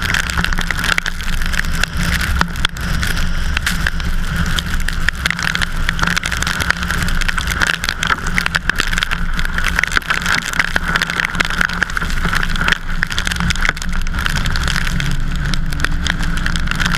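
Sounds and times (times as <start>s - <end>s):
road and wind noise: 0.0s - 16.9s
small ticks and pops: 0.0s - 16.9s.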